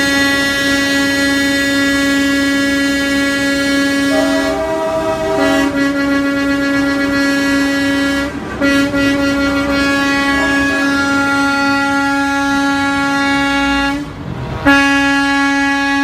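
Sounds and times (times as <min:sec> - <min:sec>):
truck air horns blaring: 0:00.0 - 0:16.0.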